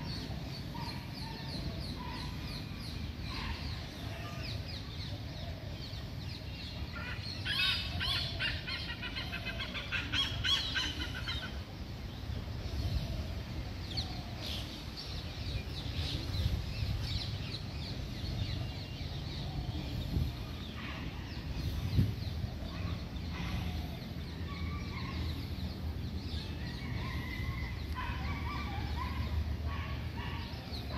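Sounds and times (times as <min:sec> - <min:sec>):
birds chirping and calling: 0:00.0 - 0:30.9.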